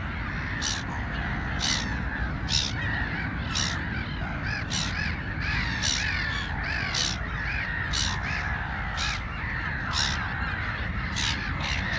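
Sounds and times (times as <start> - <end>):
gulls squawking: 0.0 - 11.9.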